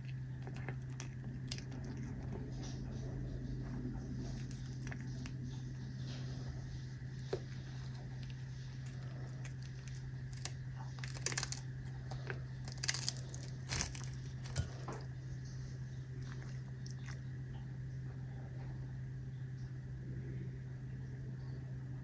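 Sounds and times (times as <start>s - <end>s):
cat crunching dried fish: 0.0s - 18.2s
steady low hum: 0.0s - 22.0s.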